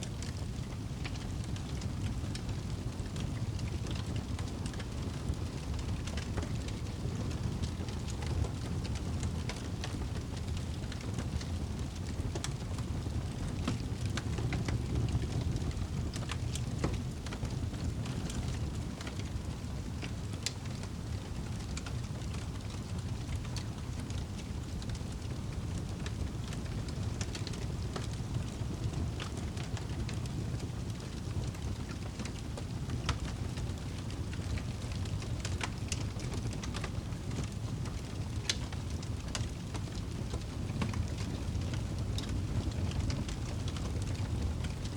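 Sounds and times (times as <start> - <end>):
campfire crackling and popping: 0.1 - 44.9.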